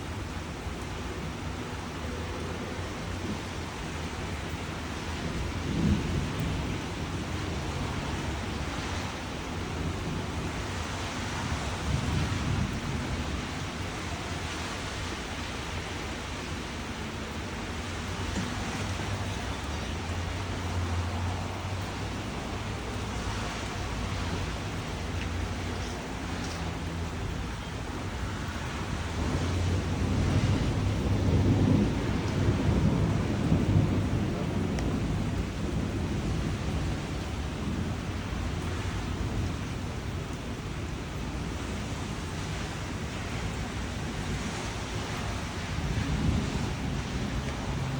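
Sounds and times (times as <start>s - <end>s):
steady rain hiss: 0.0s - 47.9s.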